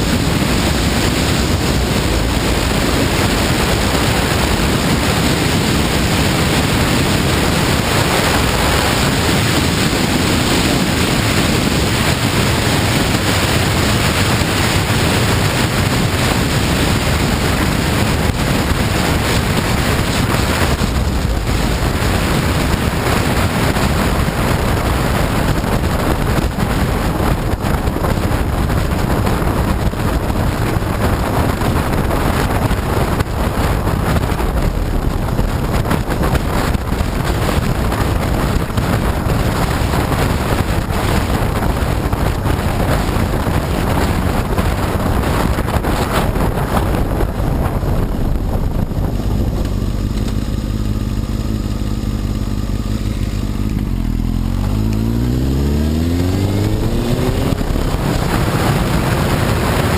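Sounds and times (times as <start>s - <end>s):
motorcycle engine: 0.0s - 59.9s
wind rush on microphone: 0.0s - 59.9s.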